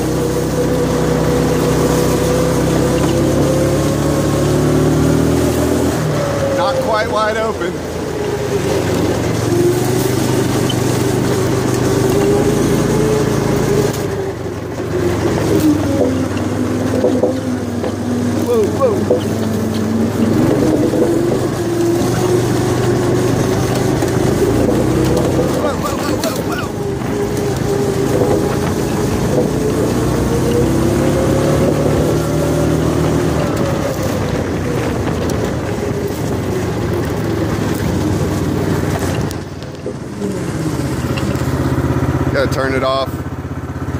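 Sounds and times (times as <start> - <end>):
go-kart engine at high revs: 0.0 - 43.9.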